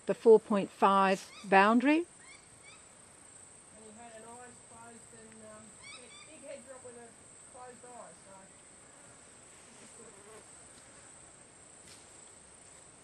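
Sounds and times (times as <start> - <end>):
high-pitched insect chorus: 0.9 - 13.0.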